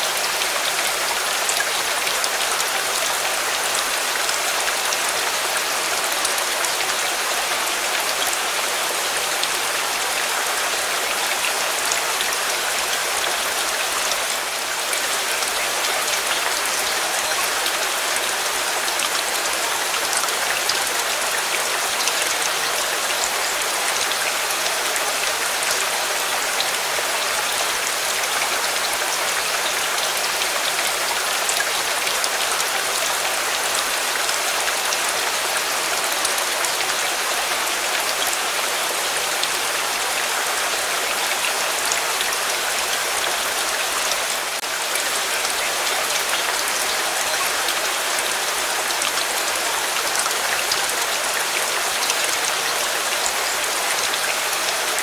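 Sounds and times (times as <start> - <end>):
dense rainfall: 0.0 - 55.0.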